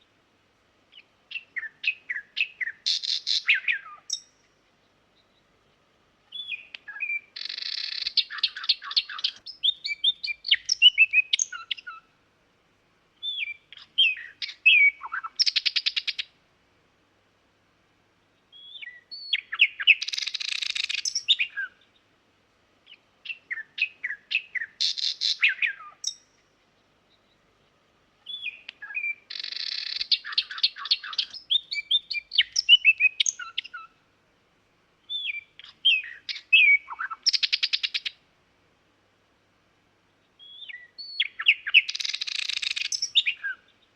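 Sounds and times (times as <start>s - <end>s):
nightingale singing: 0.8s - 12.2s, 13.2s - 16.4s, 18.3s - 22.1s, 22.8s - 34.0s, 35.0s - 38.2s, 40.1s - 43.9s.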